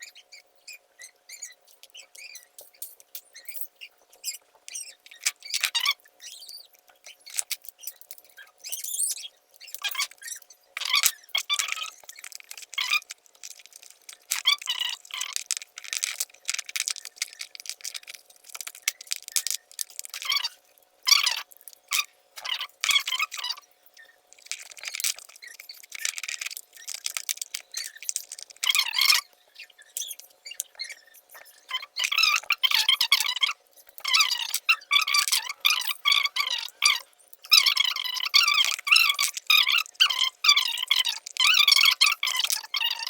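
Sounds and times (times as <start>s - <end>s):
charger cable squeaking and scraping: 0.0s - 43.0s.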